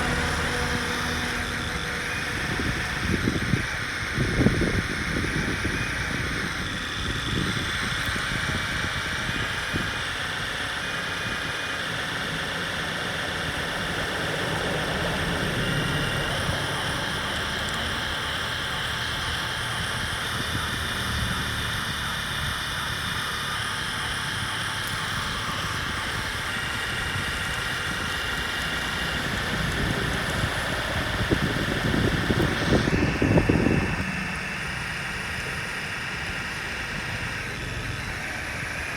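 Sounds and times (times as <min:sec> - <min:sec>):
electric motors and gears whining: 0:00.0 - 0:38.9
rough low rattle: 0:00.0 - 0:38.9.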